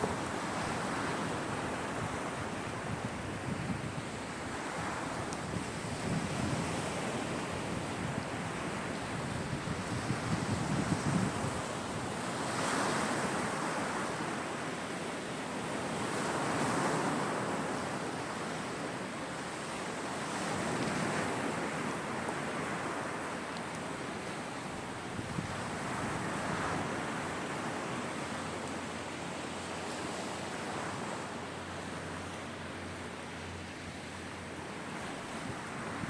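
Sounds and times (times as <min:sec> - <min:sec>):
sea waves breaking on shore: 0:00.0 - 0:36.0.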